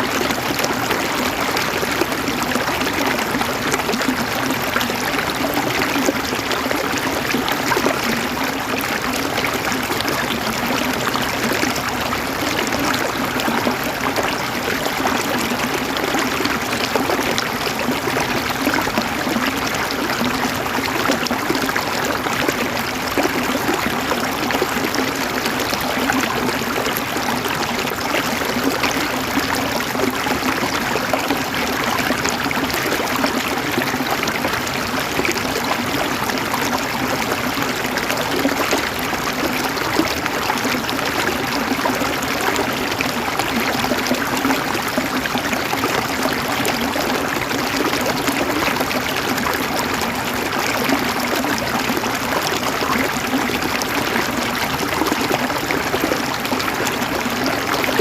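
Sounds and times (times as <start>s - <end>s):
river water gurgling over stones: 0.0s - 58.0s.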